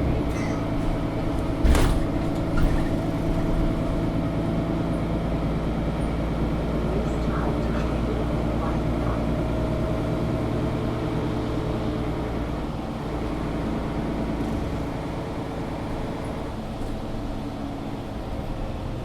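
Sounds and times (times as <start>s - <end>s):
bus engine and running noise: 0.0s - 19.0s.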